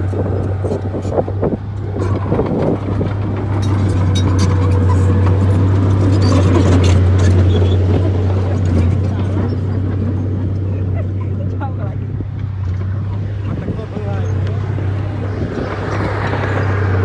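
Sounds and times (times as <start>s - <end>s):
bulldozer diesel engine drone: 0.0s - 17.0s.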